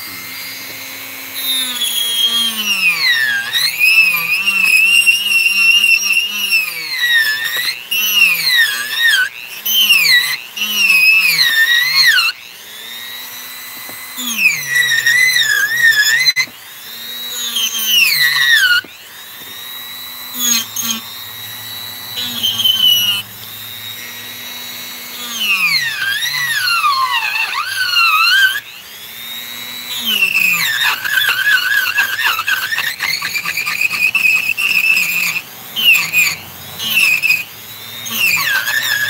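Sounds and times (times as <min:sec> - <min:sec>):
rotary tool carving wood: 0:00.0 - 0:39.0.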